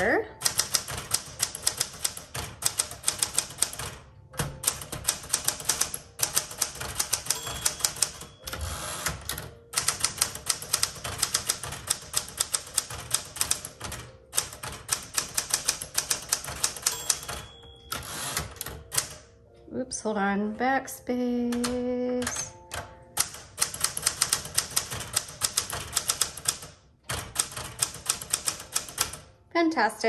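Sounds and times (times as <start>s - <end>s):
manual typewriter key strikes: 0.4s - 19.3s, 21.5s - 29.3s.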